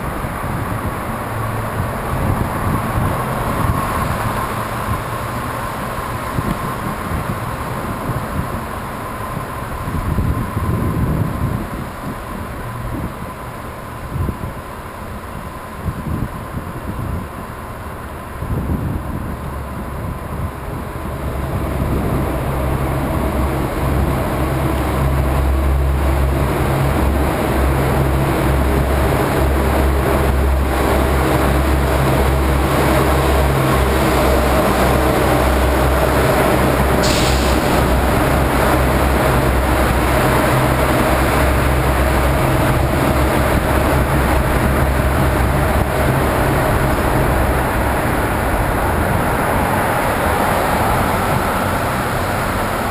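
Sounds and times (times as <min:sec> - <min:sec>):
highway traffic rumble: 0:00.0 - 0:52.9
wind noise on microphone: 0:00.0 - 0:52.9.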